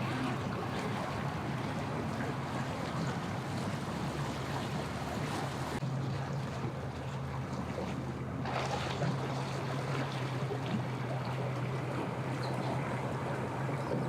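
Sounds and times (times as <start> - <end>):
motor engine humming: 0.0 - 14.0
wind and water noise: 0.0 - 14.0.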